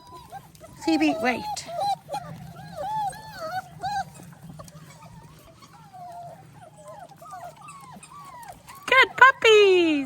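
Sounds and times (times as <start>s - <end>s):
puppies whining: 0.0s - 10.0s.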